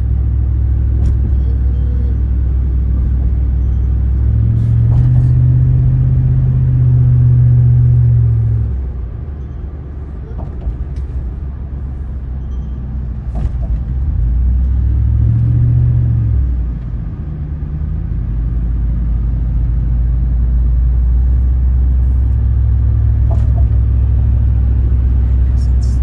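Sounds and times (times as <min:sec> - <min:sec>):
car road and tyre noise: 0:00.0 - 0:26.0.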